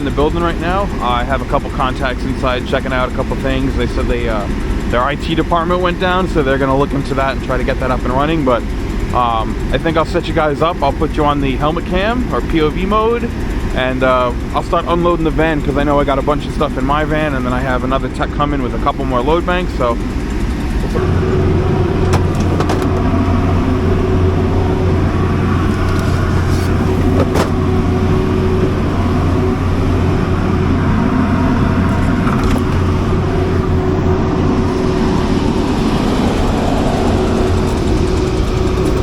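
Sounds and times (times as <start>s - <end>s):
generator running: 0.0s - 39.0s.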